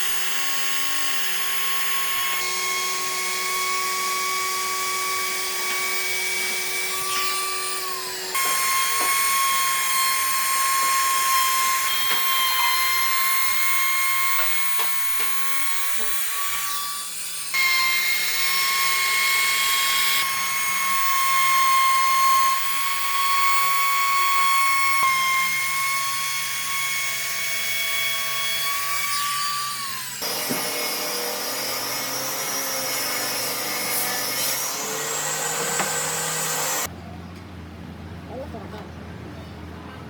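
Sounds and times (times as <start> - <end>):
power tool high-pitched whine: 0.0 - 36.9.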